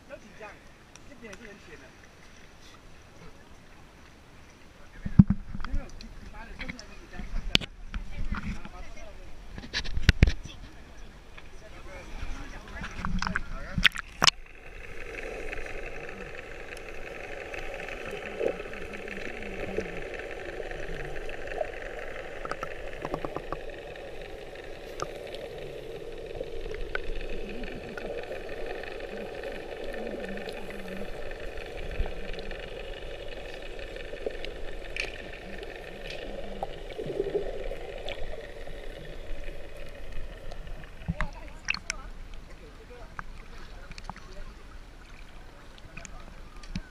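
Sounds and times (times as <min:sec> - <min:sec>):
faint clicks: 0:00.6 - 0:02.8, 0:03.4 - 0:08.8, 0:12.7 - 0:44.4, 0:45.1 - 0:46.9
muffled underwater hum: 0:04.6 - 0:46.9.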